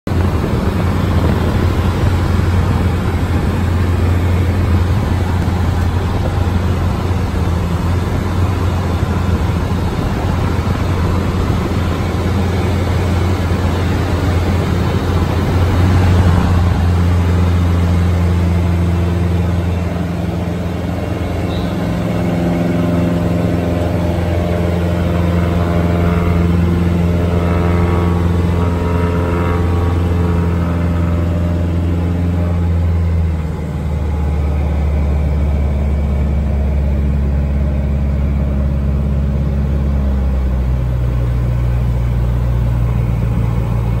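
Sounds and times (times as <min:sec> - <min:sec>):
propeller plane engine running: 0:00.0 - 0:44.0.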